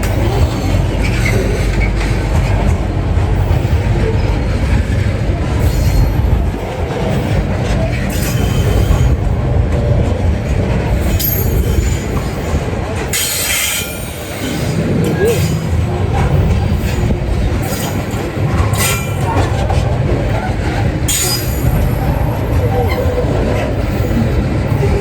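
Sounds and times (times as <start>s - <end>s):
train wagons rumbling on rails: 0.0s - 25.0s.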